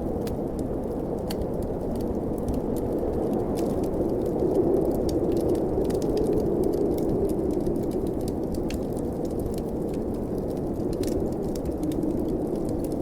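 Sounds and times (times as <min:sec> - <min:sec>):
wind howling: 0:00.0 - 0:13.0
wood fire crackling: 0:00.0 - 0:13.0.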